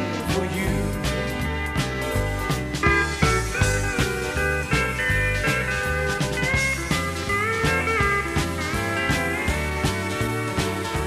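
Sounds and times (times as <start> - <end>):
country dance band playing: 0.0 - 11.0.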